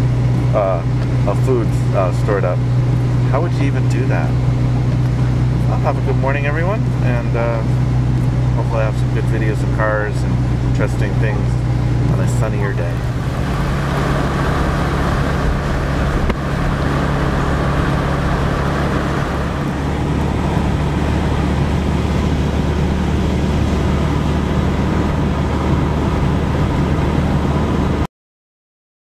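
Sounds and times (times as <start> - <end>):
car engine running: 0.0 - 28.1.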